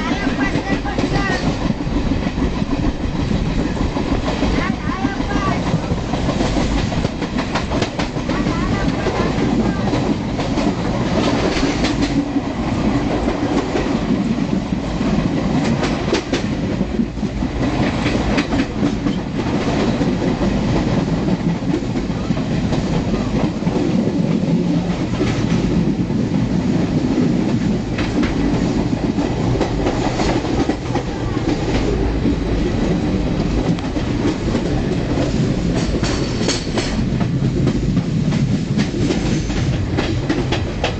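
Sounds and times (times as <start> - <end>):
train rumbling on rails: 0.0 - 40.9
wheels clickety-clack over rail joints: 0.0 - 40.9.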